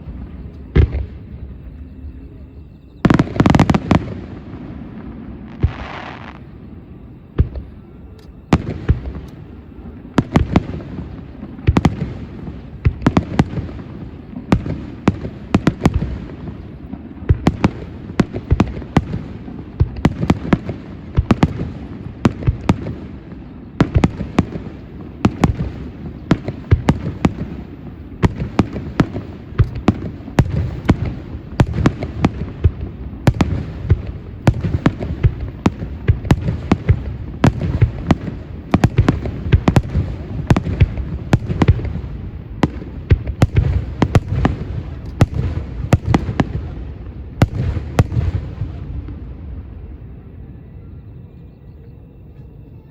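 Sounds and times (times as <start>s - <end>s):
continuous low rumble: 0.0s - 52.9s
fireworks bursting: 3.0s - 50.0s.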